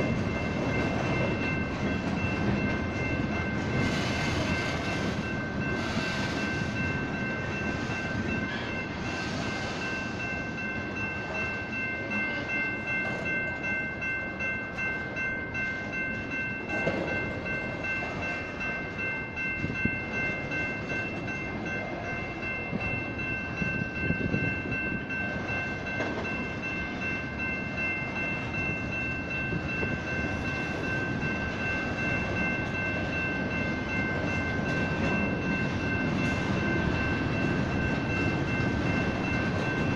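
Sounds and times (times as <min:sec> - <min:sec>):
crossing bells ringing: 0:00.0 - 0:39.9
locomotive rumble and wheel clatter: 0:00.0 - 0:39.9.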